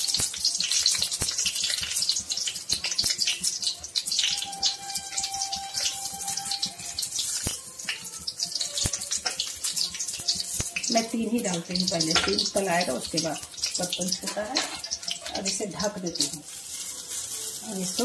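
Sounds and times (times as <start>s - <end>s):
hot oil sizzling and crackling: 0.0s - 18.0s.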